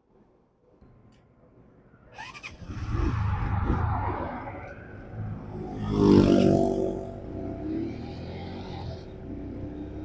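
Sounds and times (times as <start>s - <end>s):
vehicle rumble: 1.6s - 10.0s.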